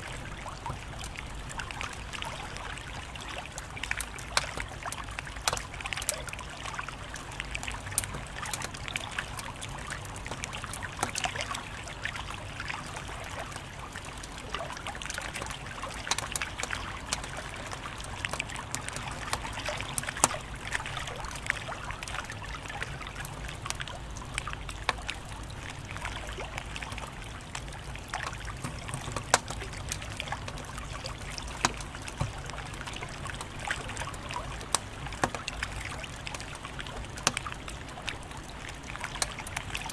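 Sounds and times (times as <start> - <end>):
wood fire crackling: 0.2 - 12.0, 12.6 - 39.9
fire popping and snapping: 3.5 - 6.3, 7.0 - 11.8, 13.6 - 39.9.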